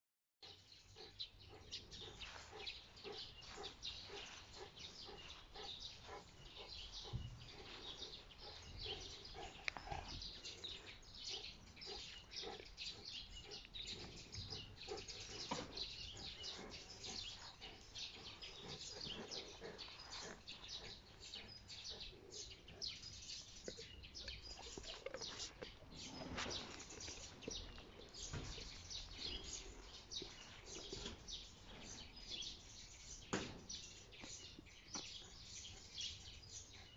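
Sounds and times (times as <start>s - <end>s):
small birds chirping: 0.4s - 36.9s.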